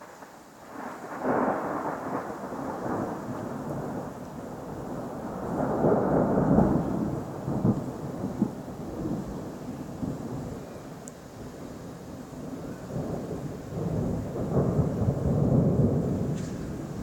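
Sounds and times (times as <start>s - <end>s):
thunder cracks: 0.0s - 11.6s, 12.4s - 17.0s
thunder rumbling: 0.0s - 17.0s.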